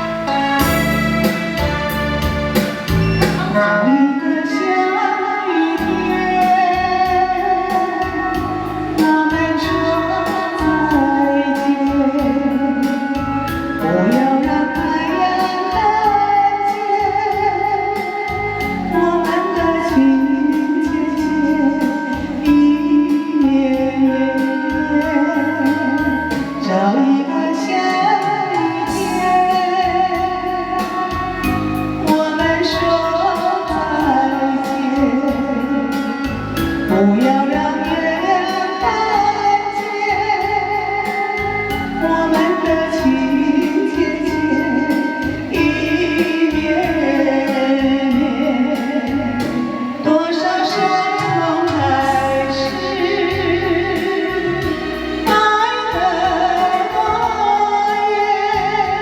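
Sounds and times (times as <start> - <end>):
slow instrumental ballad: 0.0 - 59.0.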